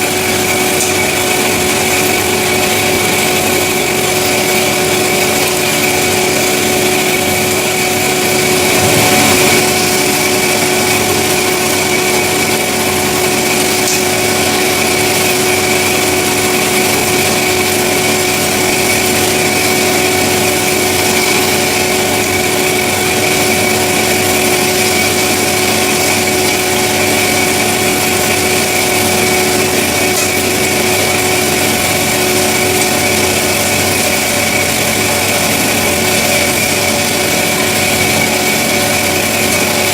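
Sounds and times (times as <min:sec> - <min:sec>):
band saw hum and whine: 0:00.0 - 0:39.9.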